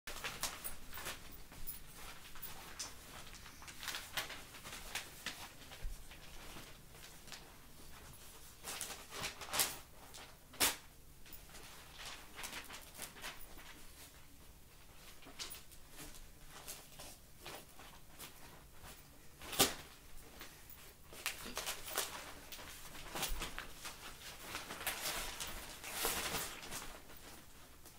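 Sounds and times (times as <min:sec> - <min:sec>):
newspaper rustling and crackling: 0:00.1 - 0:14.2, 0:14.9 - 0:27.9.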